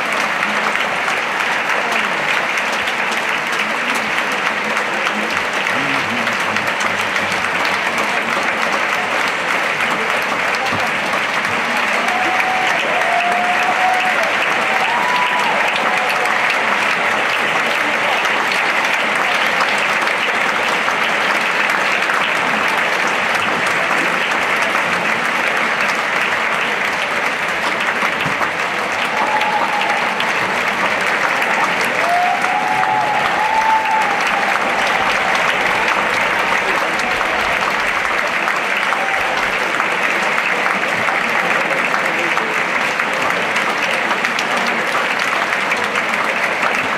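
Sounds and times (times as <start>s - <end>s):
large audience applauding: 0.0s - 46.9s.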